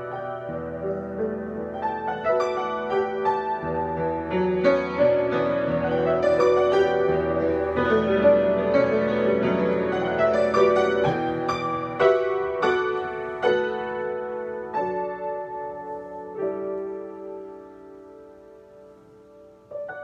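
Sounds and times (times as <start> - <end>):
solo piano playing: 0.0 - 20.0.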